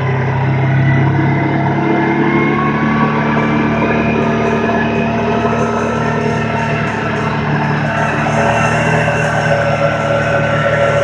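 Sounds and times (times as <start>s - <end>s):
engine running steadily: 0.0s - 11.0s
road and wind noise: 0.0s - 11.0s.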